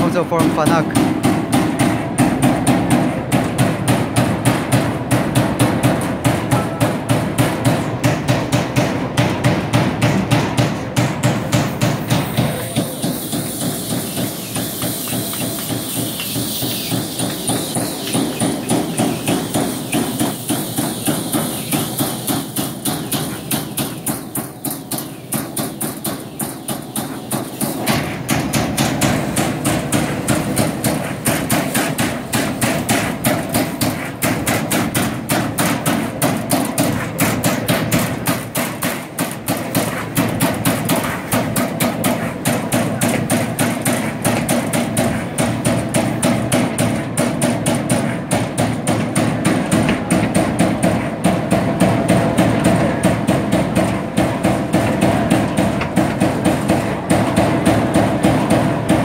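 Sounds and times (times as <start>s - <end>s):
punch press striking steel sheet: 0.0s - 59.0s.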